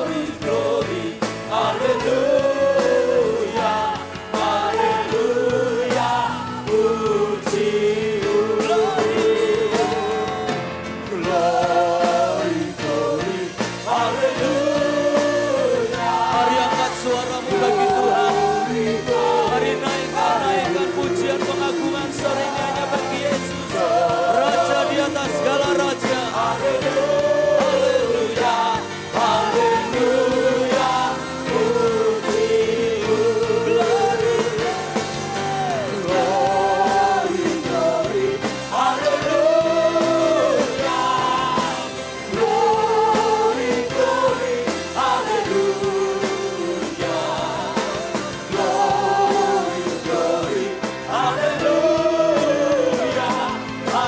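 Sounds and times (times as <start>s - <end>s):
congregation singing gospel song: 0.0s - 54.0s
instrumental backing music: 0.0s - 54.0s.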